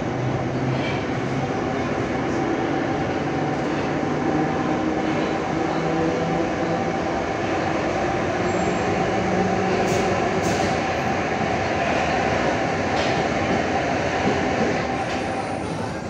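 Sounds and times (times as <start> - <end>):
metro train wheels rumbling: 0.0 - 16.0.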